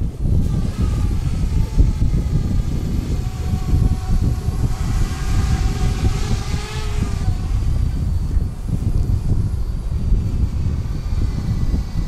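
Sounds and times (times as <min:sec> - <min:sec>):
drone propellers whining: 0:00.0 - 0:12.0
wind buffeting microphone: 0:00.0 - 0:12.0.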